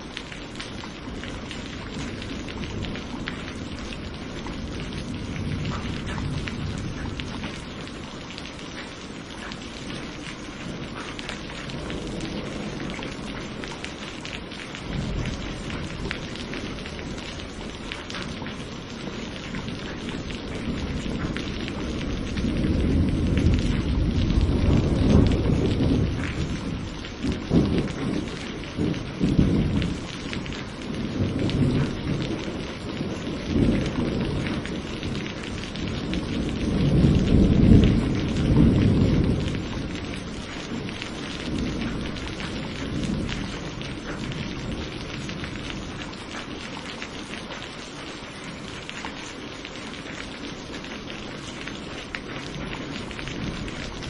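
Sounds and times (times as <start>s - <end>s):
thunder rumbling: 0.0s - 47.7s, 50.0s - 54.0s
rain hissing: 0.0s - 54.0s.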